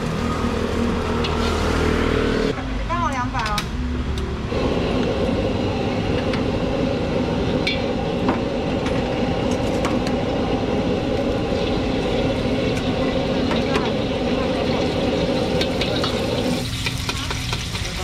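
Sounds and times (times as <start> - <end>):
gas burner rushing: 0.0 - 2.6, 4.2 - 18.0.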